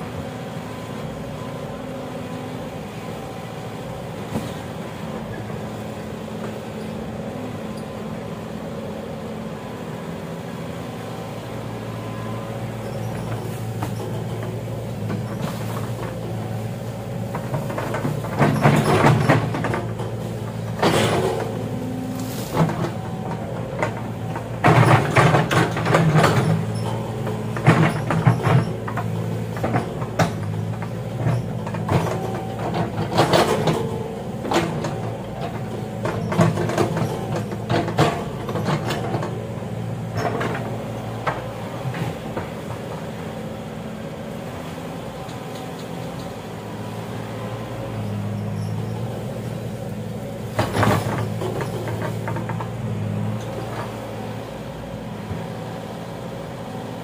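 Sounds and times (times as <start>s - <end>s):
excavator clanks and knocks: 0.0s - 9.8s, 10.4s - 57.0s
diesel engine running: 0.0s - 57.0s.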